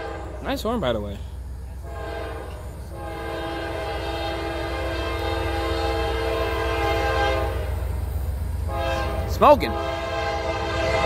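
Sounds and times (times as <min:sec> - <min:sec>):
locomotive horn chord: 0:00.0 - 0:00.6, 0:01.8 - 0:07.8, 0:08.6 - 0:11.0.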